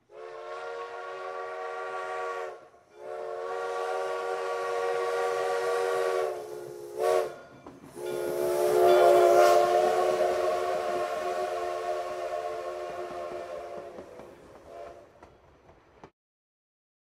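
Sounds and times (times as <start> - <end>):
train whistle chord: 0.0 - 15.1
breathy steam hiss: 0.4 - 15.1.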